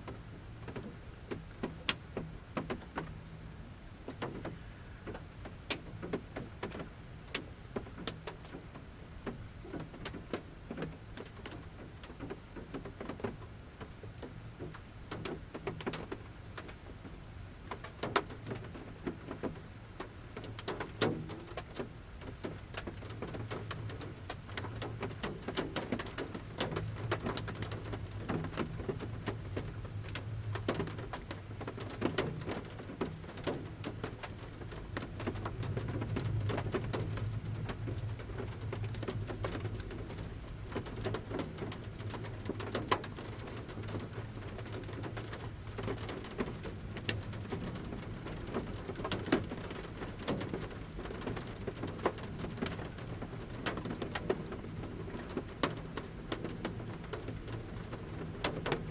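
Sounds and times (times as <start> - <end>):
raindrops pattering on van roof: 0.0 - 58.9.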